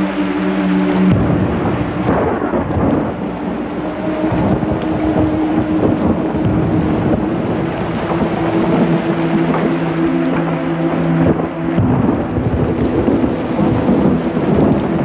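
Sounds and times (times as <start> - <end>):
rain: 0.0 - 15.0
thunder rumbling and crackling: 0.0 - 15.0.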